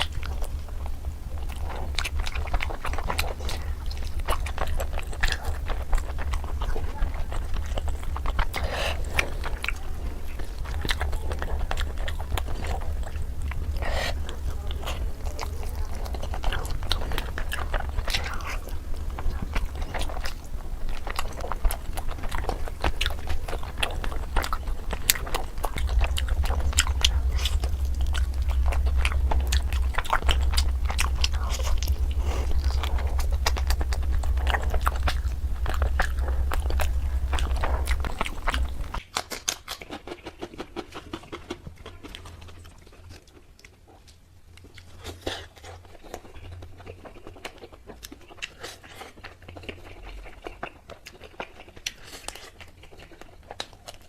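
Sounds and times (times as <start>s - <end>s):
wet crunchy chewing: 0.0s - 54.0s.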